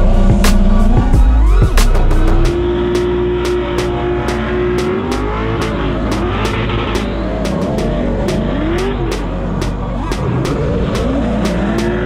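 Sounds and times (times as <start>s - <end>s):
car engine revving: 0.0s - 12.0s
music with ticking beat: 0.0s - 12.0s.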